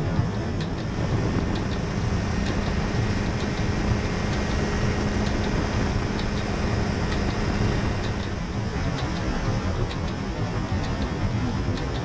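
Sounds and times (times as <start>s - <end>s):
engine and propeller hum: 0.0s - 12.0s
wind rushing over microphone: 0.0s - 12.0s.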